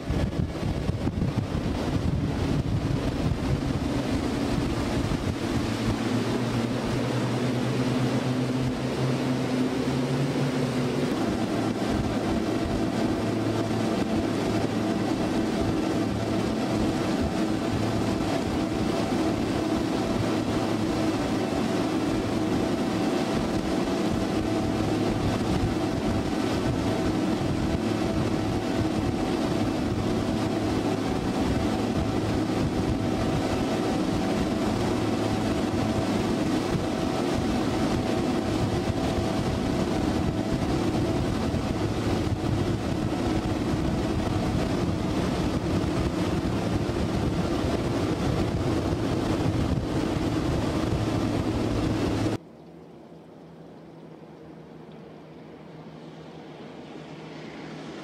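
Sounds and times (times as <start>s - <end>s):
rushing wind: 0.0s - 52.4s
outboard motors droning: 0.0s - 58.0s.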